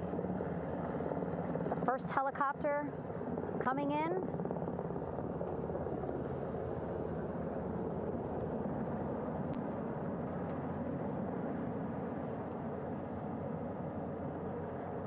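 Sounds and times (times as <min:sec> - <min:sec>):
helicopter hovering: 0:00.0 - 0:15.0.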